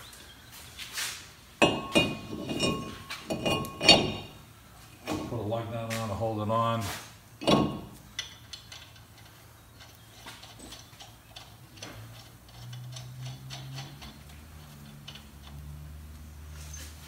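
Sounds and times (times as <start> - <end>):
low steady hum: 1.6 - 15.6.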